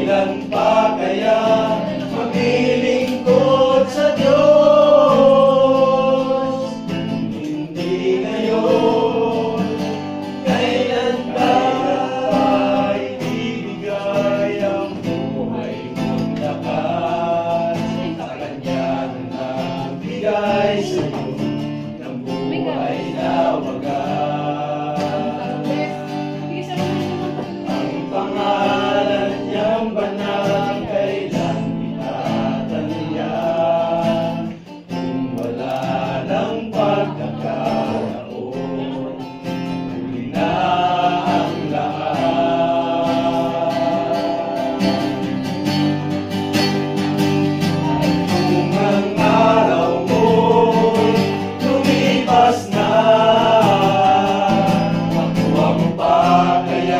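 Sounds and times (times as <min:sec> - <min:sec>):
men singing worship song: 0:00.0 - 0:45.9, 0:46.6 - 0:56.9.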